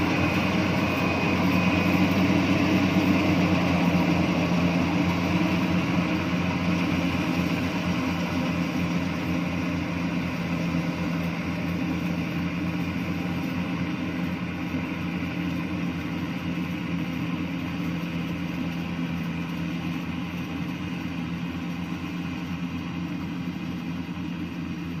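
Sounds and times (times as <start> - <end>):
combine harvester diesel engine: 0.0 - 25.0.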